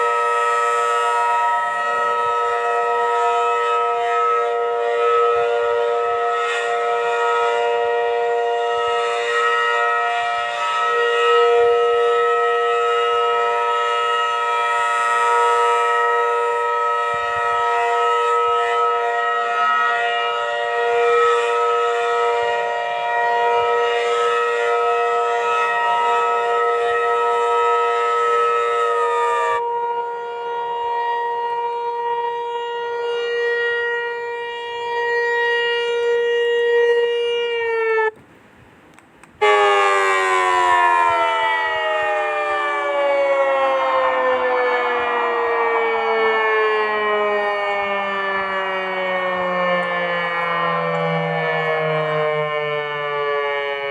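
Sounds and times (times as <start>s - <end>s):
civil defense siren: 0.0s - 53.9s.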